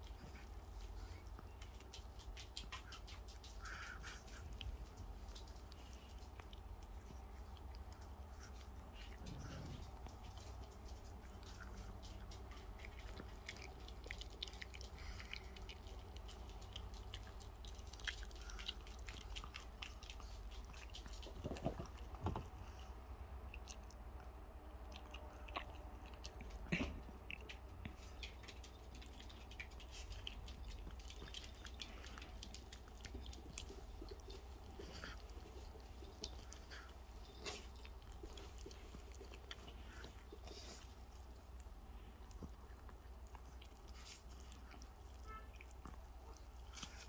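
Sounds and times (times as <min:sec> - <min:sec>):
dog chewing raw meat: 0:00.0 - 0:47.0.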